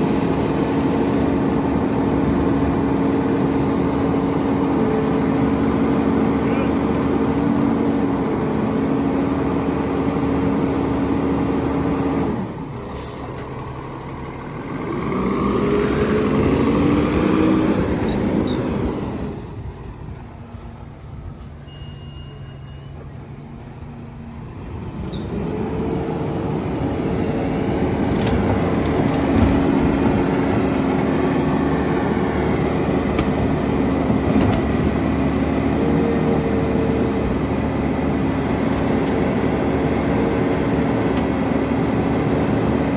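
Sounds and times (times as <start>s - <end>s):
garbage truck packer hum: 0.0s - 19.8s, 24.3s - 42.9s
truck engine pulling away: 0.0s - 42.9s.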